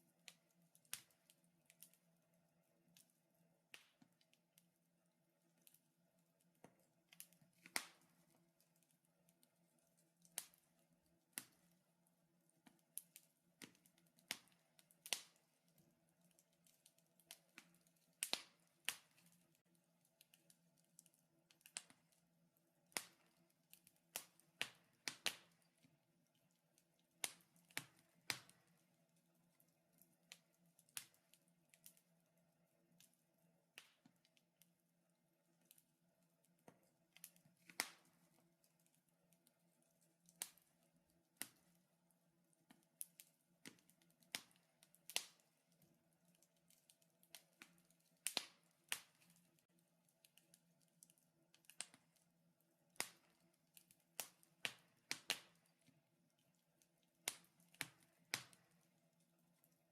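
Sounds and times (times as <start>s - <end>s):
wood fire crackling and popping: 0.1s - 2.2s, 2.8s - 4.7s, 5.4s - 34.7s, 36.4s - 41.8s, 42.6s - 59.9s.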